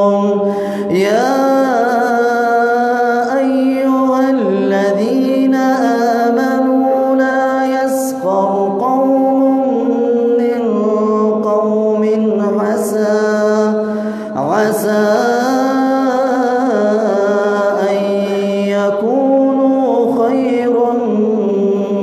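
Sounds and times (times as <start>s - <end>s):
man chanting: 0.0s - 22.0s.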